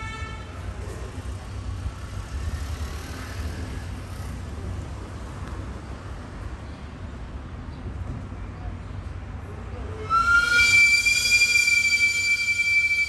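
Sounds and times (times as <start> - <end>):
city traffic rumble: 0.0 - 13.0
passing vehicles hiss: 0.0 - 13.0.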